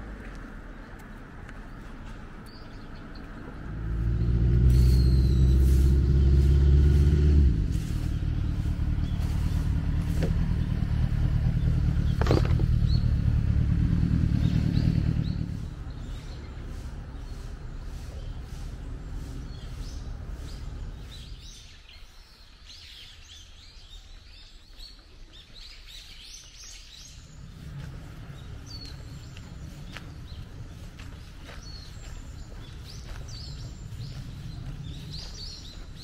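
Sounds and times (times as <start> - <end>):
vehicle engine rumble: 0.0 - 36.0.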